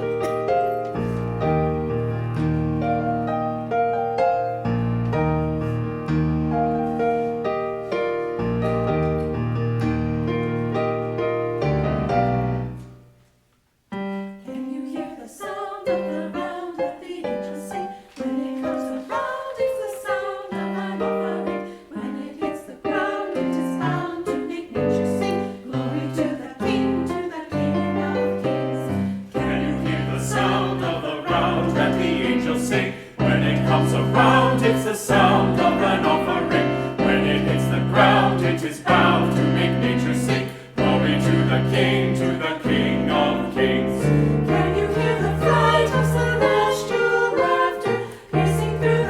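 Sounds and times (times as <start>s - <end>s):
piano chords and notes: 0.0s - 13.3s, 13.9s - 49.0s.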